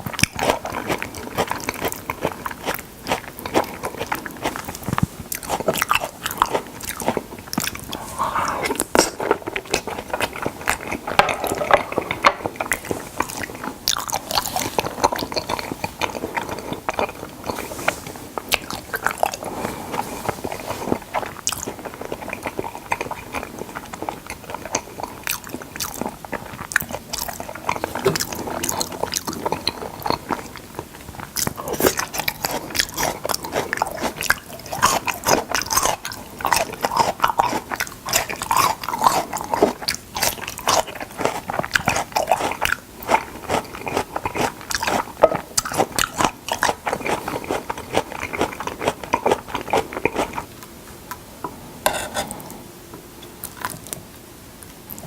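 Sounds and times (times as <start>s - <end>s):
wet chewing and biting: 0.0s - 17.6s, 18.4s - 50.5s.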